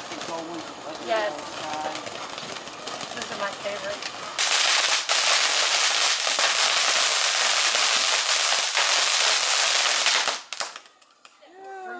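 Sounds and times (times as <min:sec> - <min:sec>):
firework fountain hissing: 0:00.0 - 0:10.9.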